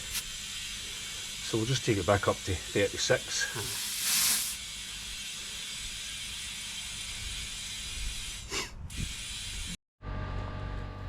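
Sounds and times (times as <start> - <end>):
compressed air hissing into tyre: 0.0 - 9.8.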